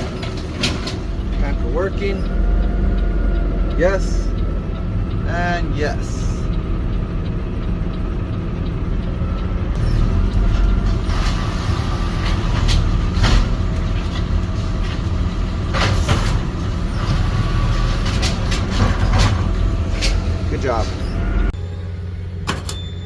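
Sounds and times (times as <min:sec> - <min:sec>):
garbage truck engine rumble: 0:00.0 - 0:23.0.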